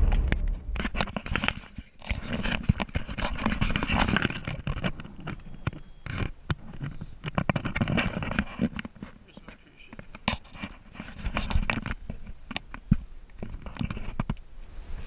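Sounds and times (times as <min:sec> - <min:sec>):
rustling clicks and crackles: 0:00.0 - 0:15.0.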